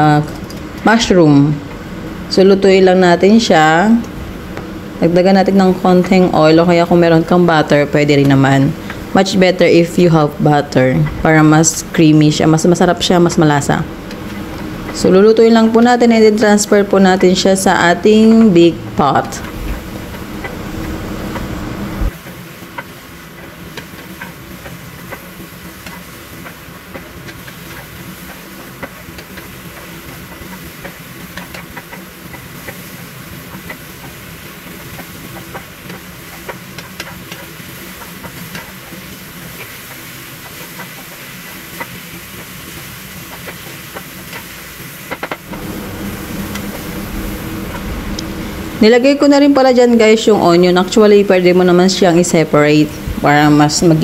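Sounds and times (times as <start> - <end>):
mushrooms sizzling in a frying pan: 0.0 - 54.0.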